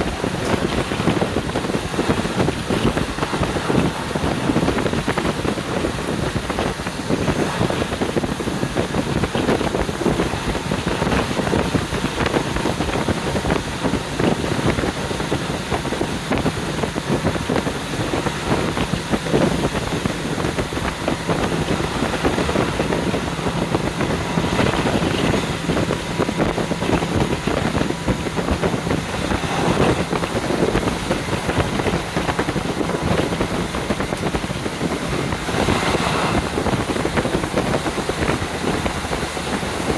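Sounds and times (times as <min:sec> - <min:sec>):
train running noise: 0:00.0 - 0:39.9
wind buffeting microphone: 0:00.0 - 0:39.9.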